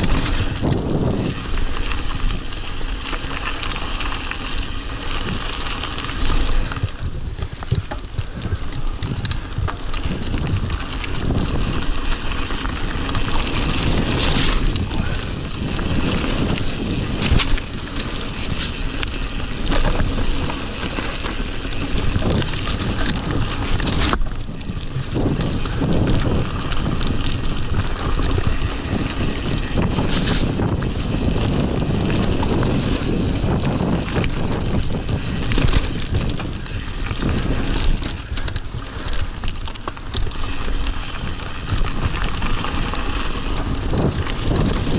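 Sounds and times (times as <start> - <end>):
bike rattling: 0.0 - 44.9
tyres on gravel: 0.0 - 44.9
wind buffeting microphone: 0.0 - 44.9.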